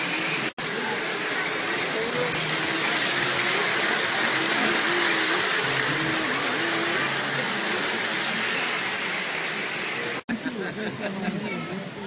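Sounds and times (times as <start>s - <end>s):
crowd murmur: 0.0s - 12.0s
model trains rolling rumble: 0.0s - 12.0s.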